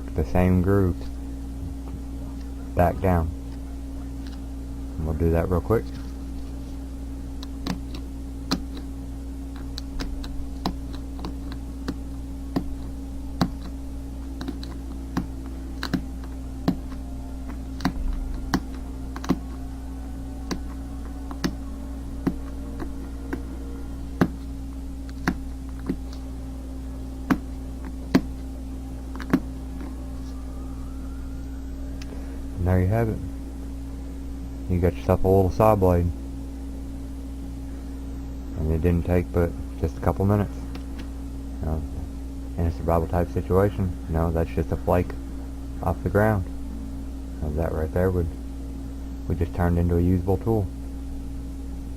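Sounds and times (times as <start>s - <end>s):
low hum: 0.0s - 51.9s.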